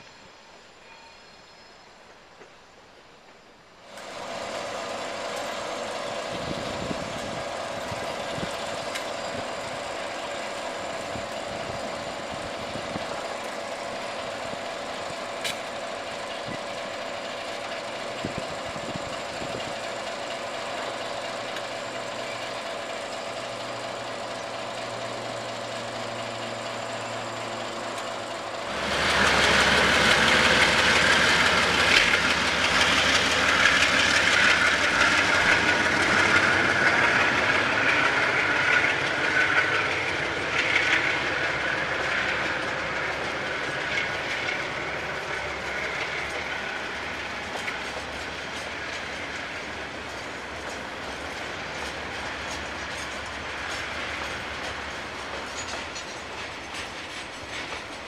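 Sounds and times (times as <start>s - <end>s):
diesel locomotive engine hum: 0.0s - 58.0s
freight train rumbling past: 0.0s - 58.0s.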